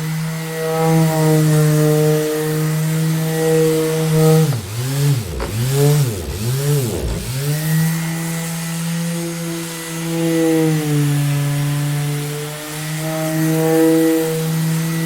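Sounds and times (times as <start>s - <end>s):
orbital sander motor running: 0.0s - 15.0s.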